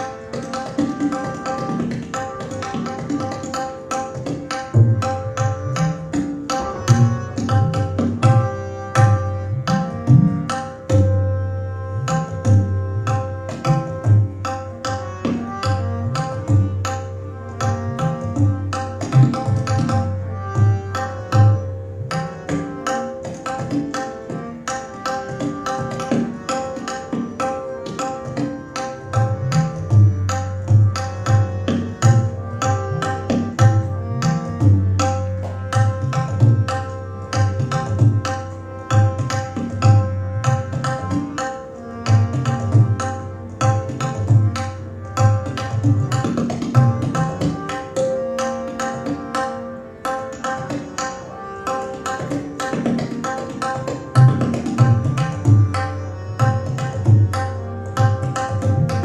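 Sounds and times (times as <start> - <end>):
harmonium accompaniment: 0.0 - 59.0
rapid tabla strokes: 0.0 - 59.0.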